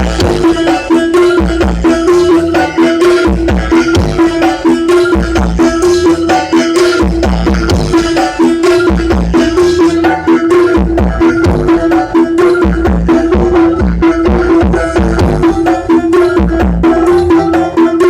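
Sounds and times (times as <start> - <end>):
held synth tone: 0.0 - 18.0
loud dance music with heavy bass: 0.0 - 18.0.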